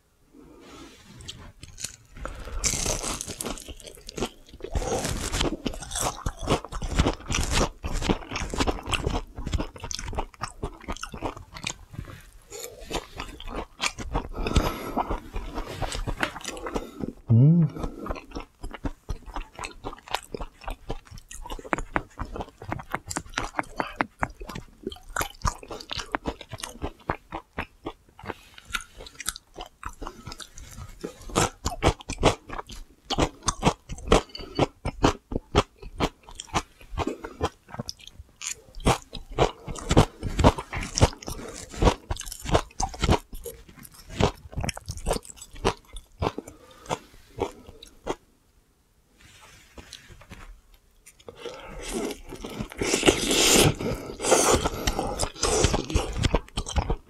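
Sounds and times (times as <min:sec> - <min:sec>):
chewing and crunching food: 0:01.2 - 0:48.2, 0:49.8 - 0:57.0.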